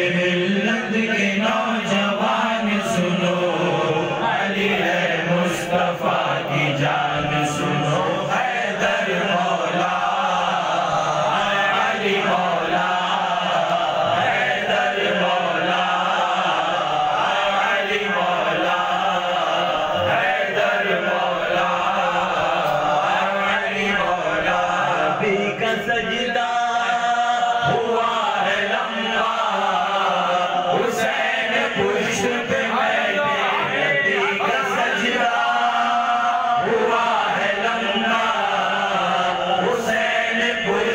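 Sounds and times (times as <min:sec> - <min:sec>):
men chanting together: 0:00.0 - 0:40.9.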